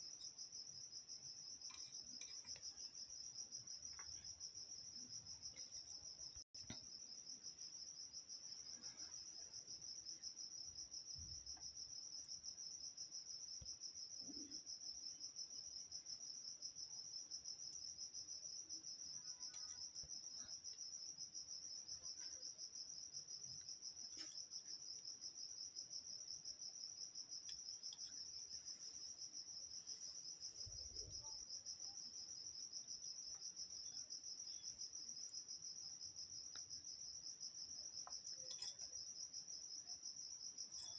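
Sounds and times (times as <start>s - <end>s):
cricket trilling: 0.0s - 40.9s.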